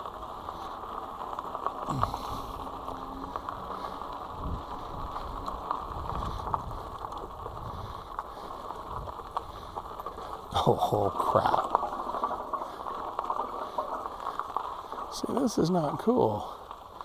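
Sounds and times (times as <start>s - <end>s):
bike frame rattling: 0.0s - 15.2s
bike tyres rumbling on trail: 0.0s - 17.0s.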